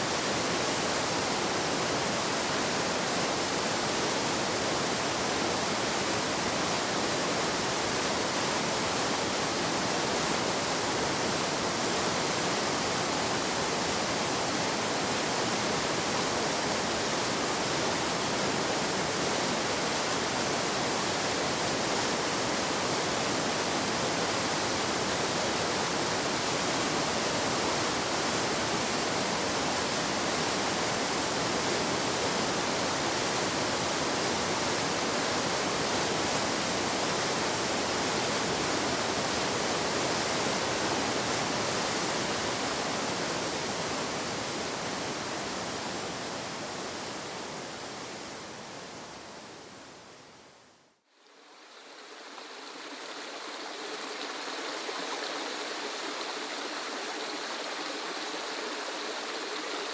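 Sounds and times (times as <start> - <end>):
waterfall rushing: 0.0 - 49.4.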